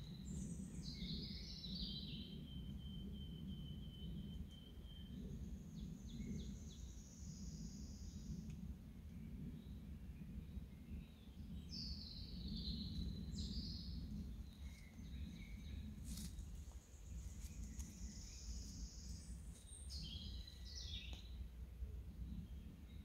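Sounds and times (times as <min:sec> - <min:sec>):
songbirds singing: 0:00.0 - 0:23.0
steady low rumble: 0:00.0 - 0:23.0.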